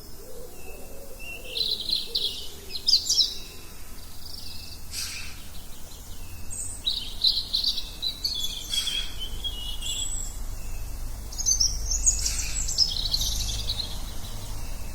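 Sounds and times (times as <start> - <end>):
birds chirping and singing: 0.0 - 14.9.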